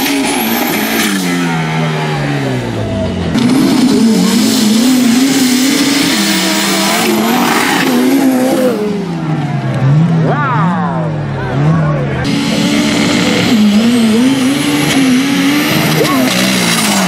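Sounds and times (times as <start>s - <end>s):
racing engines revving: 0.0s - 17.0s.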